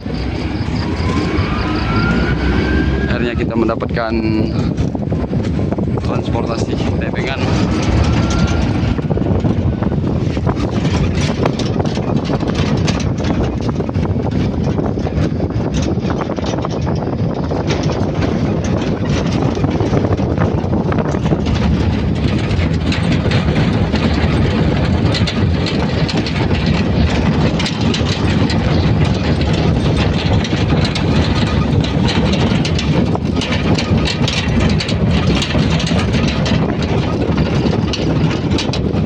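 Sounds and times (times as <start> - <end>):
car engine rumble: 0.0 - 39.0
road noise: 0.0 - 39.0
wind on microphone: 0.0 - 39.0.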